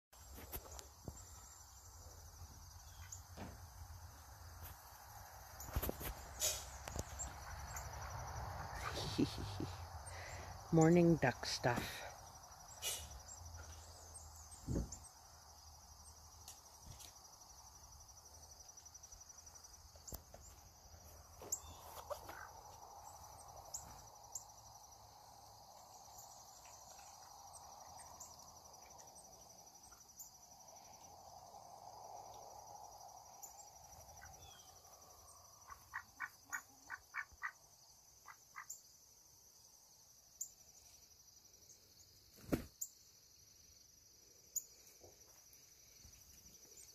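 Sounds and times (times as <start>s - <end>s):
insects chirring: 0.2s - 46.9s.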